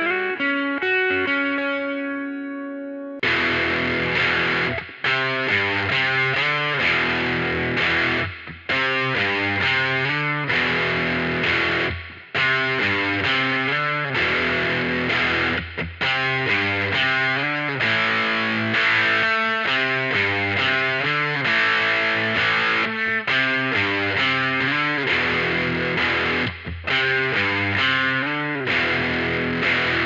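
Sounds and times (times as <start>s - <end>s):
distorted electric guitar strumming: 0.0s - 30.0s.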